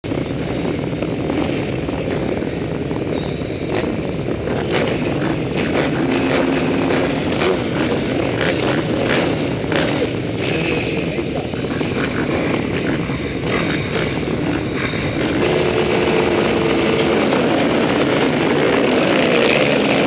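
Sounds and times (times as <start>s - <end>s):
motorbike engines idling: 0.0s - 20.0s
sharp engine revs: 3.7s - 20.0s.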